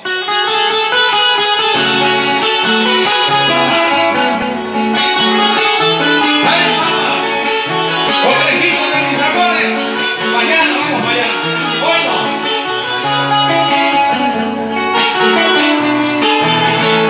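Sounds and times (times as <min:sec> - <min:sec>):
plucked guitars: 0:00.0 - 0:17.0
bass line: 0:01.4 - 0:17.0.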